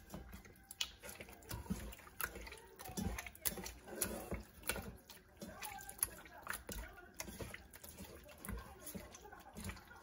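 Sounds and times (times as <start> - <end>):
wet squelching of raw chicken: 0.0 - 10.0.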